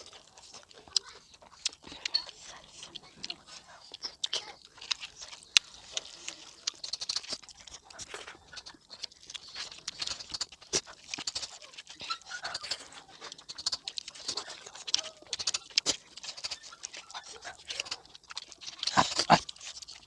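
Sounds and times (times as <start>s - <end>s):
chewing: 0.0s - 20.0s
wet clicks and lip smacks: 0.7s - 20.0s.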